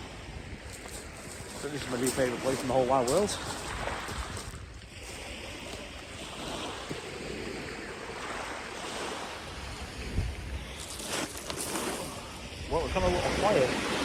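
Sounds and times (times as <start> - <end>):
surf washing onto beach: 0.0 - 14.0
wind rumbling on microphone: 0.0 - 14.0.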